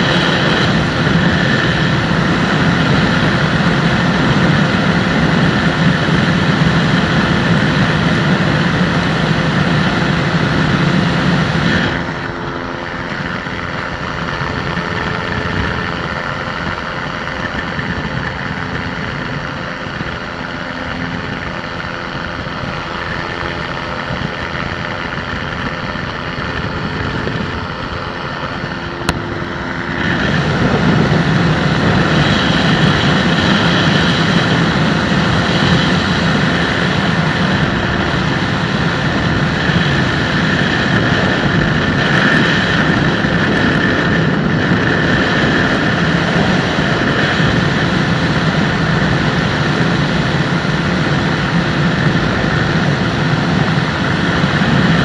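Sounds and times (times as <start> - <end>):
microlight aircraft engine and propeller: 0.0 - 55.0.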